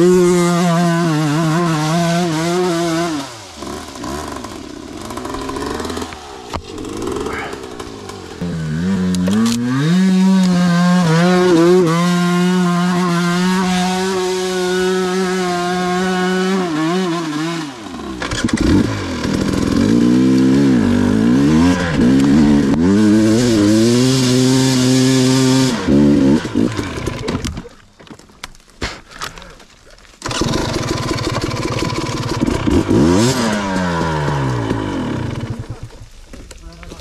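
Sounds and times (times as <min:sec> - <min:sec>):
two-stroke dirt bike engine revving: 0:00.0 - 0:27.7, 0:30.2 - 0:36.0.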